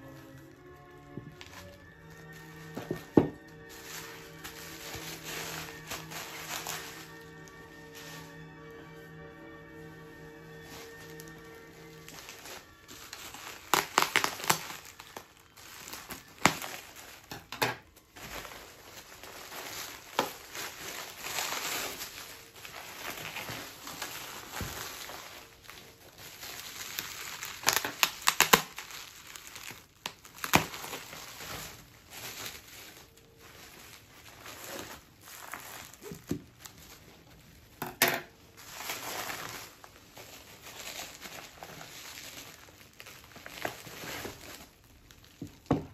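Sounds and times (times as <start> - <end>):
bubble wrap crackles: 0.0 - 45.9
bubble wrap crinkling: 0.0 - 45.9.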